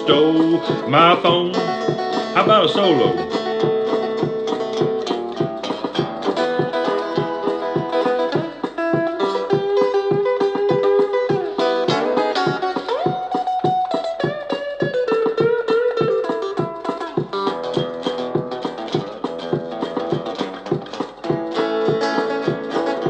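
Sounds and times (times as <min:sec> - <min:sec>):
plucked string solo: 0:00.0 - 0:23.0
strummed guitar backing: 0:00.0 - 0:23.0.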